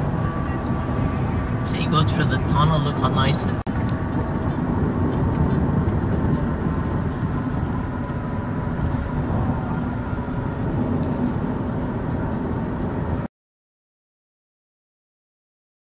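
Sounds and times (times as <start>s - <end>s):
road and engine noise in car: 0.0s - 13.3s.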